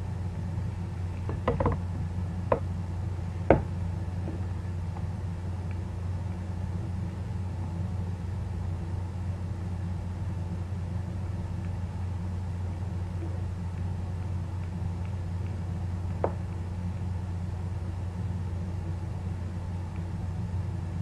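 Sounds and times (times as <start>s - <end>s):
constant hiss: 0.0s - 21.0s
low hum: 0.0s - 21.0s.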